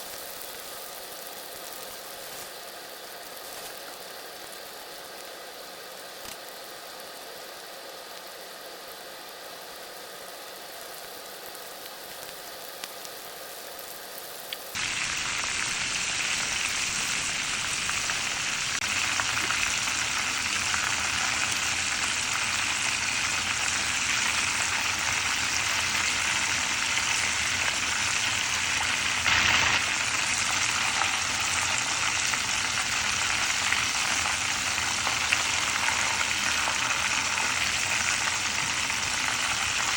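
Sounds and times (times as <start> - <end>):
chicken deep-frying in hot oil: 0.0 - 39.9.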